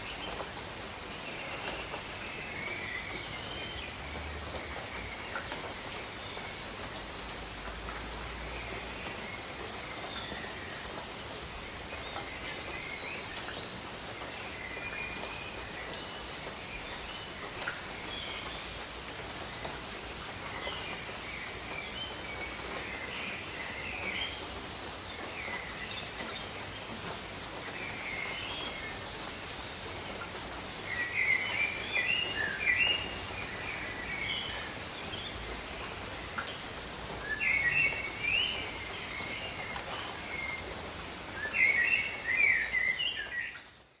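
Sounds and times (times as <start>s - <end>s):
light rain: 0.0s - 44.0s.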